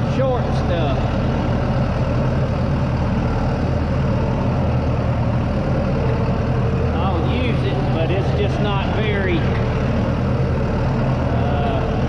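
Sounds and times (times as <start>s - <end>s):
engine idling low: 0.0s - 12.0s.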